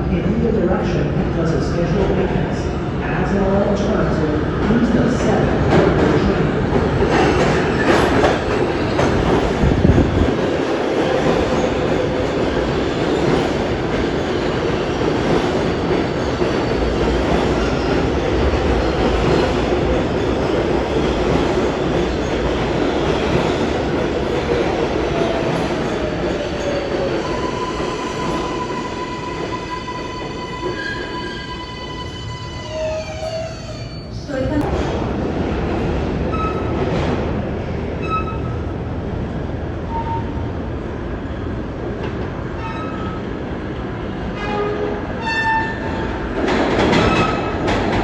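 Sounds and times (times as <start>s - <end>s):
subway train rumbling on rails: 0.0s - 48.0s.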